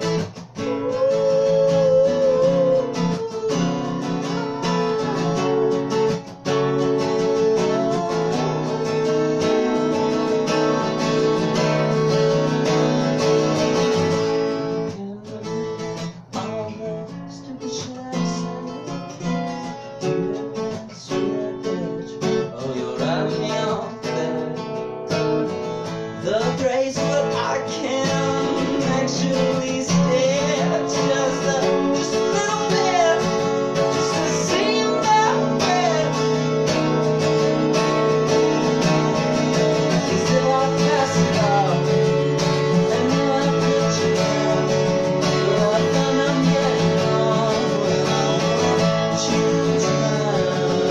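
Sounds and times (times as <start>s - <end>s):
twelve-string acoustic guitar strumming: 0.0s - 50.9s.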